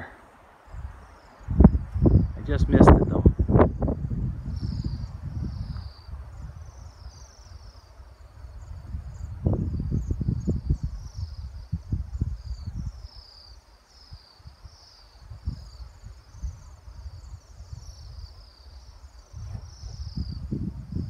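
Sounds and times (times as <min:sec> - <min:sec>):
small birds chirping: 0:00.0 - 0:21.0
wind rumble on microphone: 0:00.0 - 0:21.0.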